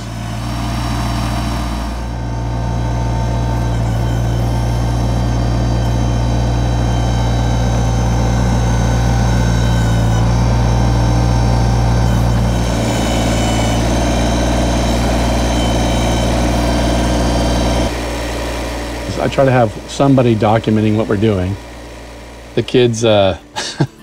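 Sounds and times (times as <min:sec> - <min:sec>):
backhoe digging: 0:00.0 - 0:24.0
tractor diesel engine running: 0:00.0 - 0:24.0.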